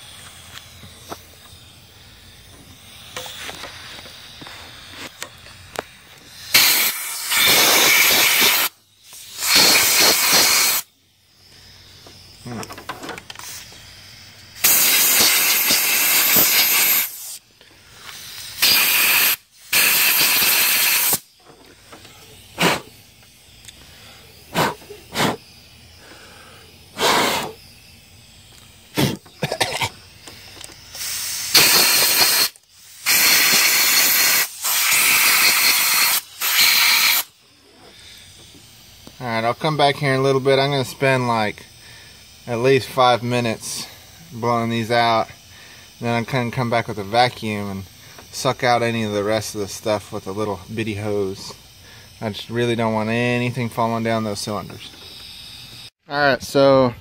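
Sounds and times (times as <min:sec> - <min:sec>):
short air puffs: 0:00.0 - 0:55.9
compressed air blow gun blasts: 0:00.0 - 0:56.0.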